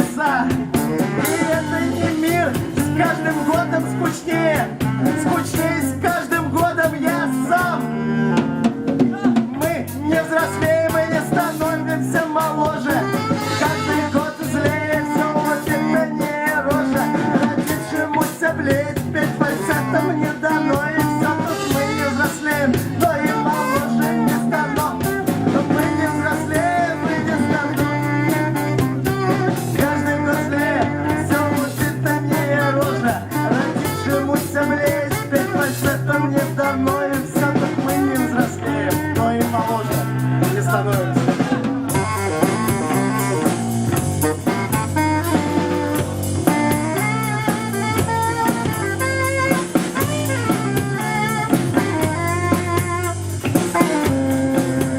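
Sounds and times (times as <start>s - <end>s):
live band playing: 0.0s - 54.9s.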